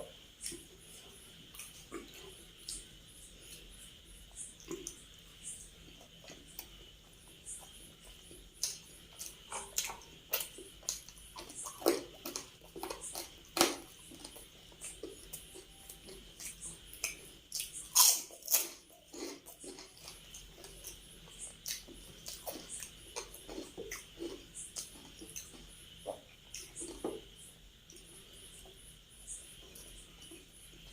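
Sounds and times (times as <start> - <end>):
chewing with lip smacks: 0.0 - 30.9.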